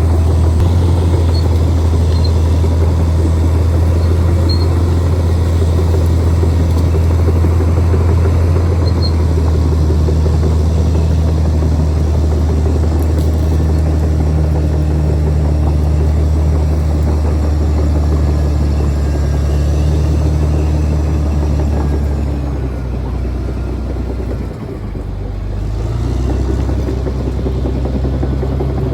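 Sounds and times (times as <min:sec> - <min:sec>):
bulldozer diesel engine droning: 0:00.0 - 0:28.9.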